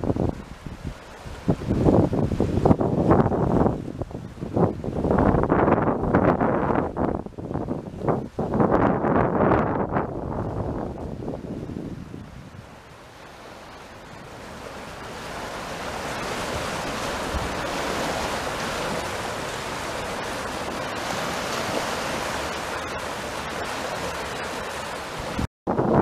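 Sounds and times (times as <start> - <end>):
small waves breaking: 0.0 - 9.2, 10.0 - 25.5.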